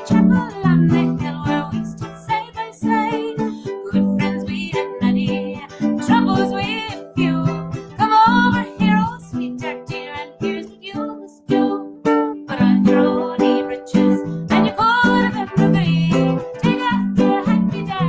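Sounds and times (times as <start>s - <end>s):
plucked string instrument: 0.0s - 18.0s
woman singing: 0.0s - 18.0s.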